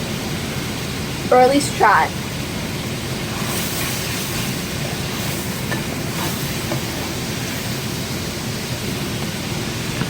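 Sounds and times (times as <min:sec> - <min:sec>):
bacon sizzling in a frying pan: 0:00.0 - 0:10.0
kitchen fan rushing: 0:00.0 - 0:10.0.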